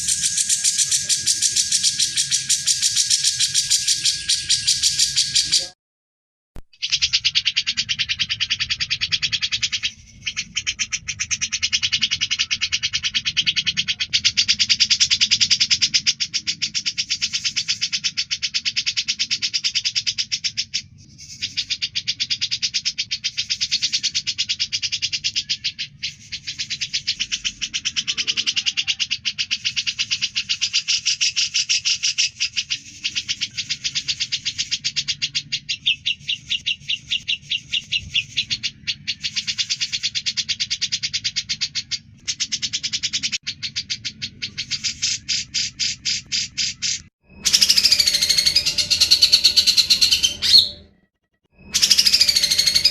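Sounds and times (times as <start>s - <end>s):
bulbul singing rapid chattering song: 0.0s - 5.8s, 6.7s - 52.9s.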